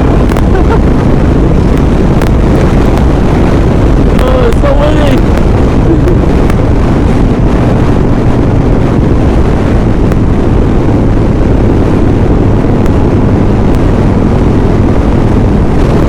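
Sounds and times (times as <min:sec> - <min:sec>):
motorcycle engine droning: 0:00.0 - 0:16.0
wind buffeting microphone: 0:00.0 - 0:16.0.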